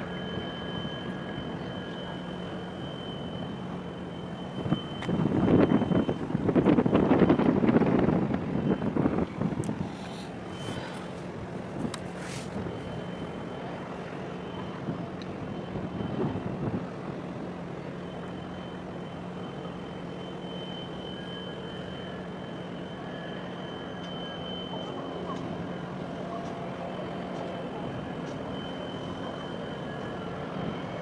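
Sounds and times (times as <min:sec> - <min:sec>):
high whine: 0:00.0 - 0:31.0
low engine drone: 0:00.0 - 0:31.0.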